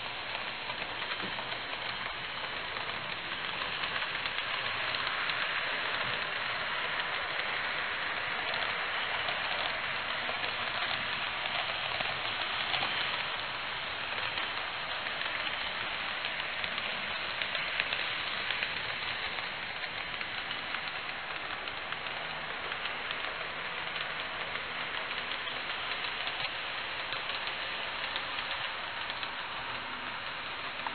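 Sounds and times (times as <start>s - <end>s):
model train wheels rattling on rail: 0.0s - 30.9s.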